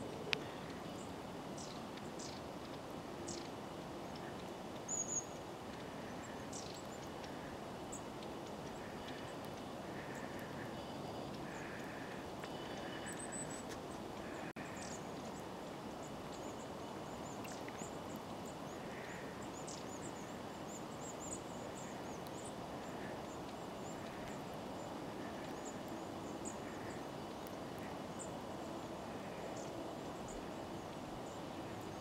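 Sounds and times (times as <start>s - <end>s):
soft low bird calls: 0.0s - 32.0s
steady background hiss: 0.0s - 32.0s.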